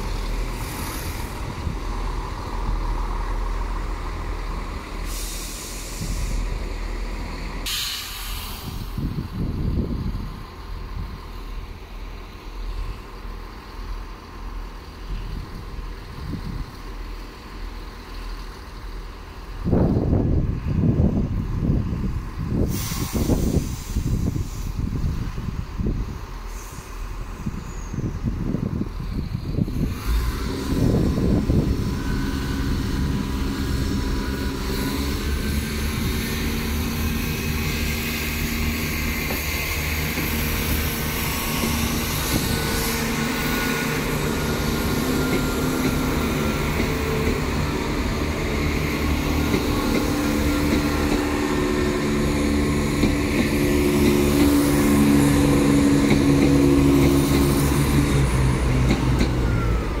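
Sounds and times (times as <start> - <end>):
diesel train passing: 0.0 - 60.0.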